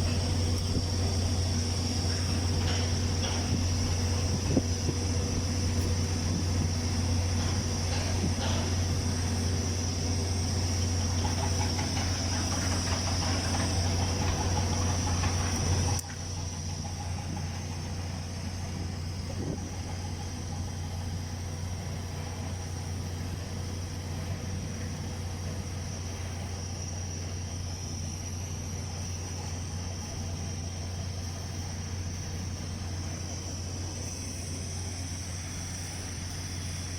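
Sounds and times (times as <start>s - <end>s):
high thin whine: 0.0s - 36.9s
welding equipment humming: 0.0s - 36.9s.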